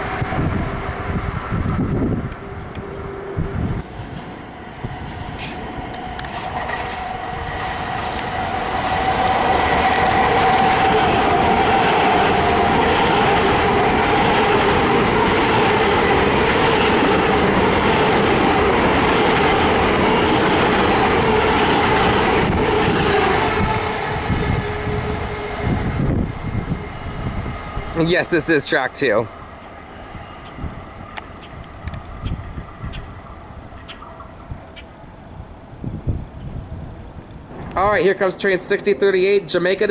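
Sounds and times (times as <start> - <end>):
train wheel and rail noise: 0.0 - 39.9
train whine: 0.0 - 39.9.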